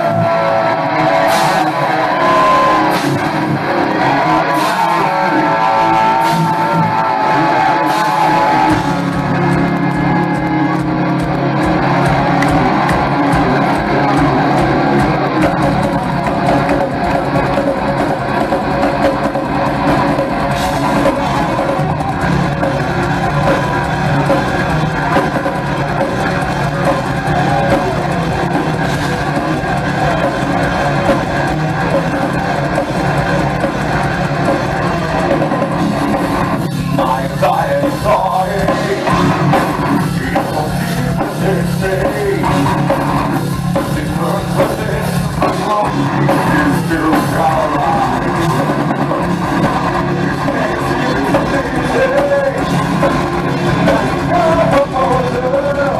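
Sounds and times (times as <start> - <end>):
bass guitar: 0.0 - 55.9
distorted electric guitars: 0.0 - 55.9
pounding drum kit: 0.0 - 55.9.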